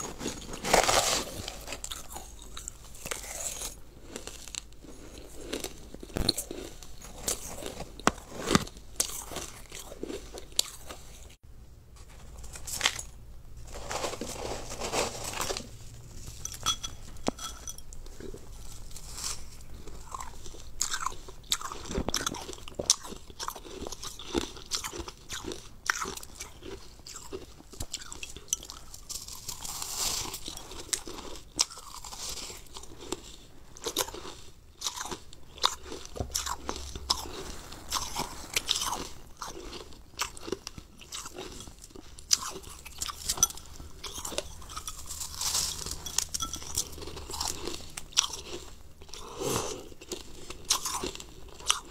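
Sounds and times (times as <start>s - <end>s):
ice being chewed: 0.0s - 11.4s, 12.4s - 51.9s.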